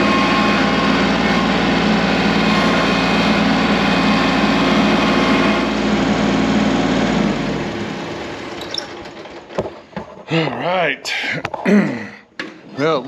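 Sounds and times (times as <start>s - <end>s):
engine running: 0.0s - 12.1s.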